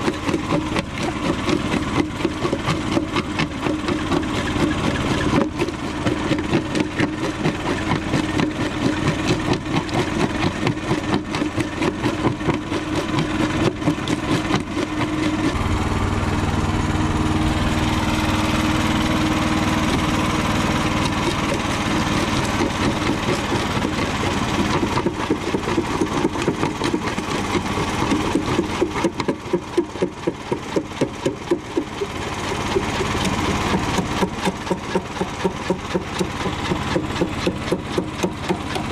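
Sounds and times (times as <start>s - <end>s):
jaw crusher crushing concrete: 0.0s - 38.9s.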